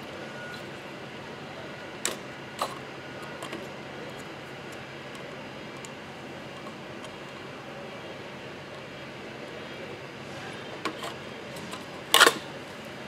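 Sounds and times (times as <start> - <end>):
shop background hiss: 0.0 - 13.0.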